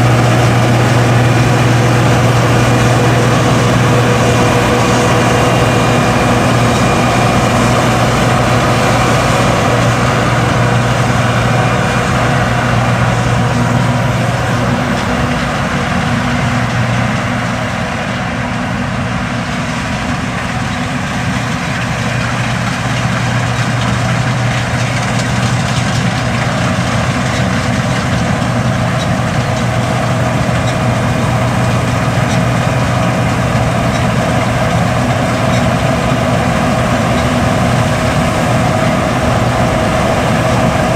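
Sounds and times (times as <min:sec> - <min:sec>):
combine harvester engine hum: 0:00.0 - 0:40.9
machinery noise: 0:00.0 - 0:40.9.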